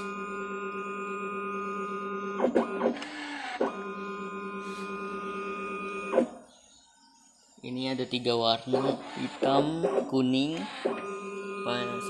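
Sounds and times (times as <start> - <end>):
tinting machine electric whir: 0.0 - 6.7, 8.7 - 12.0.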